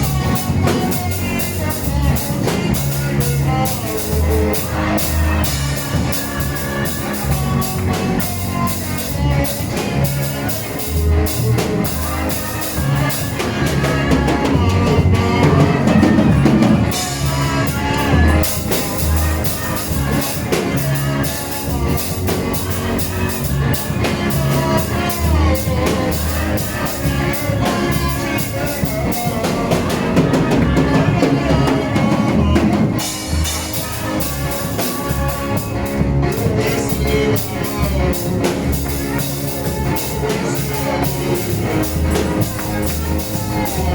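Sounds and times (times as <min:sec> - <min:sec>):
drum kit beat: 0:00.0 - 0:43.9.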